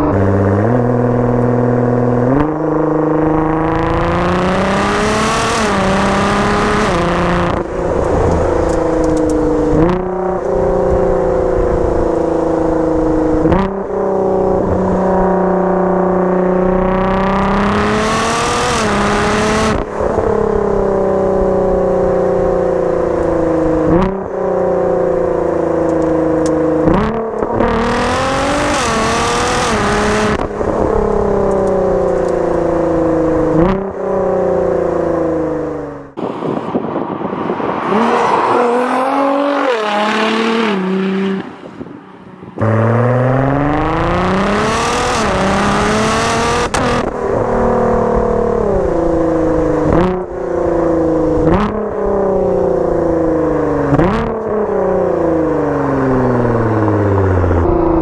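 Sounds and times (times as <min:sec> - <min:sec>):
car engine revving hard: 0:00.0 - 0:22.6, 0:26.1 - 0:36.3, 0:37.4 - 0:58.0.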